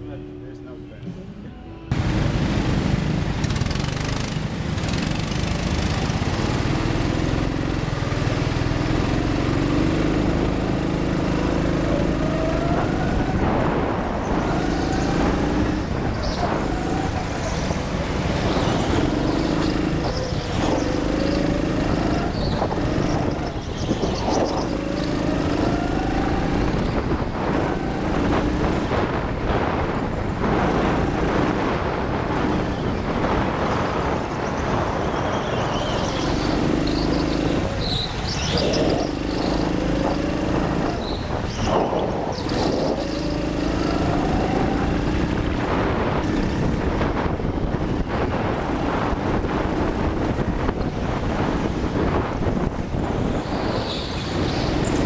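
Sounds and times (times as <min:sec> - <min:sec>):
wind and tyre noise: 0:01.8 - 0:55.0
go-kart motor revving: 0:01.9 - 0:33.4, 0:35.8 - 0:55.0.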